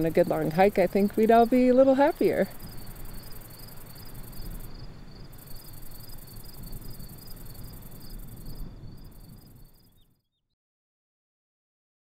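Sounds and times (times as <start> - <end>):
crickets chirping: 0.0 - 10.1.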